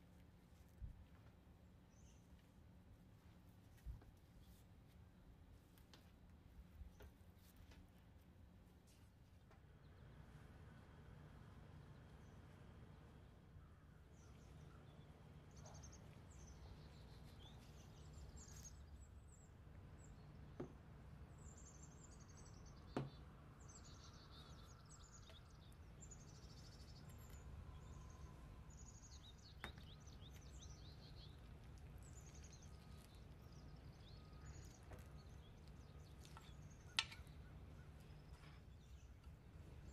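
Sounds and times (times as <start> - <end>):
faint birdsong: 0.0 - 39.9
low steady hum: 0.0 - 39.9.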